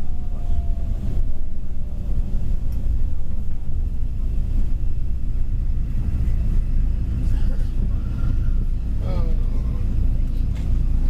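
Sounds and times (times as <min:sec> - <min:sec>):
coach engine and road rumble: 0:00.0 - 0:11.0.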